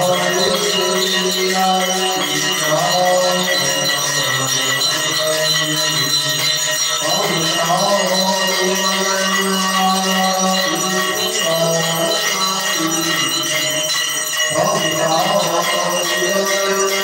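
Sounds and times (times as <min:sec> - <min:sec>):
hymn chanting: 0:00.0 - 0:17.0
temple bells ringing: 0:00.0 - 0:17.0.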